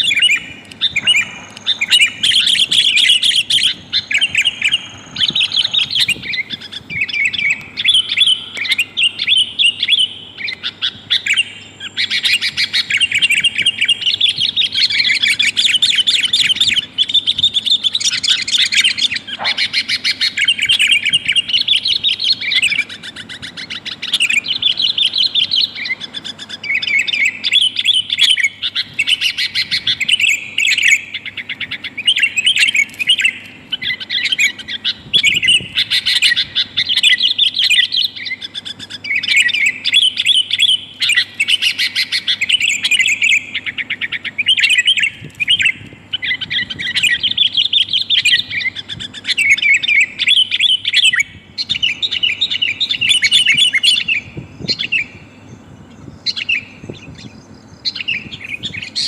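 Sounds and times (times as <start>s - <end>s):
bulbul chirping: 0.0s - 55.3s
faint steady hum: 0.0s - 59.0s.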